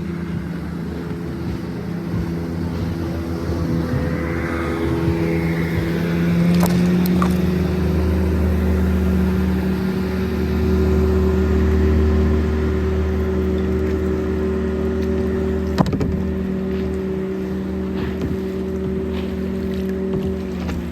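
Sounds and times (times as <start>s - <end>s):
engine humming: 0.0s - 20.9s.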